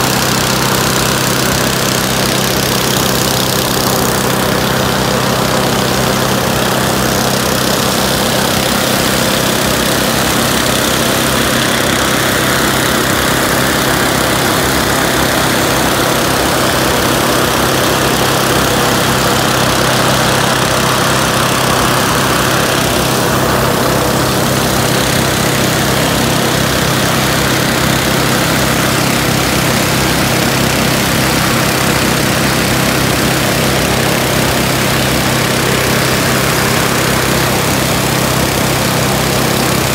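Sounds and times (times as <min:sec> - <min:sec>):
propane burner roaring: 0:00.0 - 0:39.9
small petrol engine running: 0:00.0 - 0:39.9.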